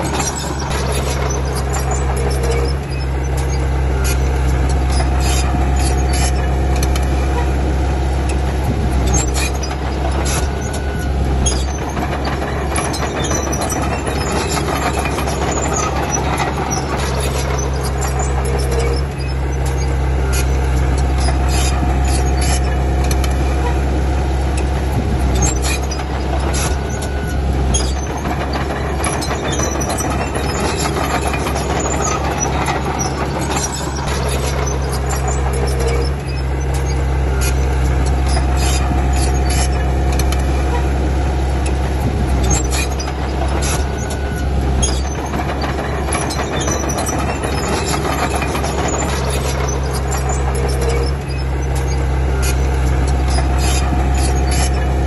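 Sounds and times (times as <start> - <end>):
bulldozer diesel engine running: 0.0 - 55.0
steel tracks clanking and squealing: 0.0 - 55.0.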